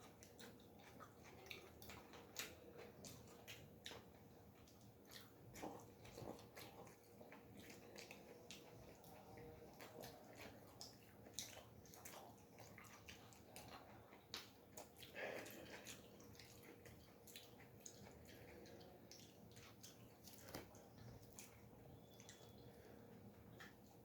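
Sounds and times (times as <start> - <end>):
chewing with wet mouth clicks: 0.0 - 24.0.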